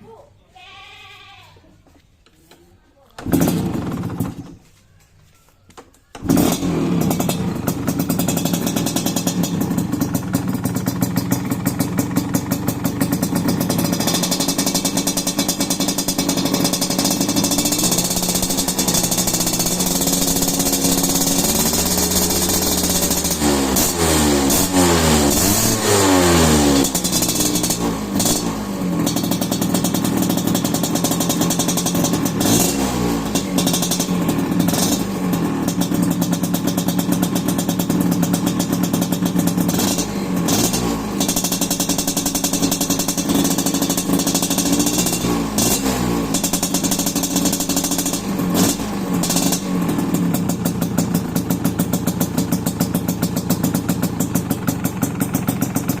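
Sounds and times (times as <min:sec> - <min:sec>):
two-stroke engine idling and revving: 0:03.1 - 0:04.6, 0:06.1 - 0:56.0.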